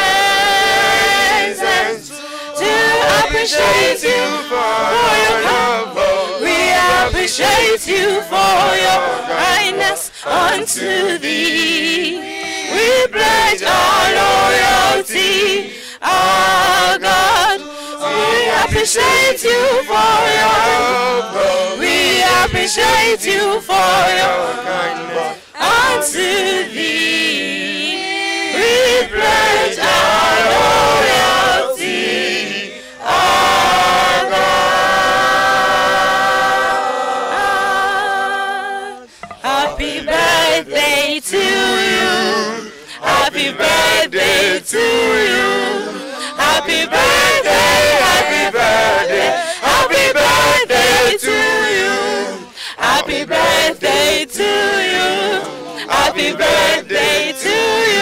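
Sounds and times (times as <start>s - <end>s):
mixed choir singing unaccompanied: 0.0s - 58.0s.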